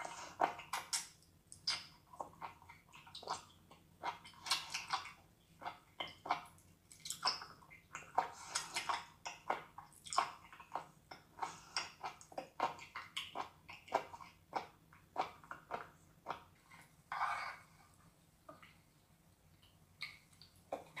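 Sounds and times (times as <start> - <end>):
wet slurping and chewing: 0.0 - 17.8.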